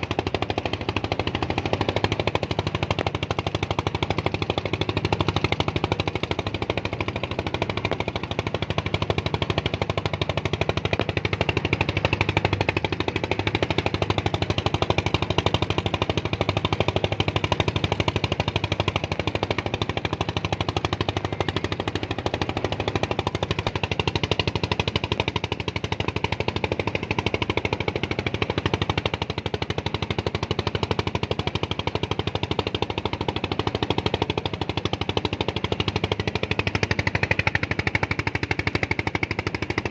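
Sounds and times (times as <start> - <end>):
motor engine chugging: 0.0 - 39.9.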